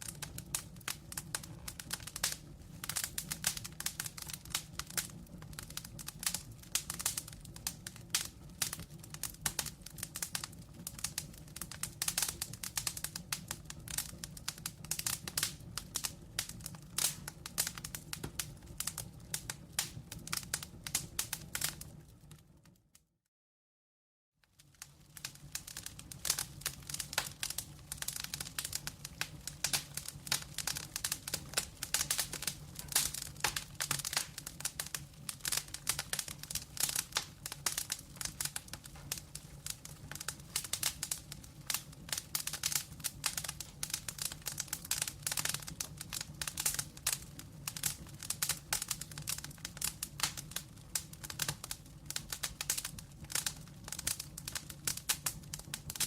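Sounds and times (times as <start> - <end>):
wood fire crackling and popping: 0.0 - 23.0, 24.5 - 56.0.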